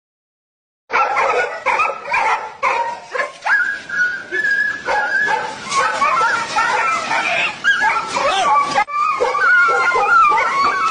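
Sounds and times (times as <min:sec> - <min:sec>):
dog yelping and whining: 0:00.9 - 0:10.9.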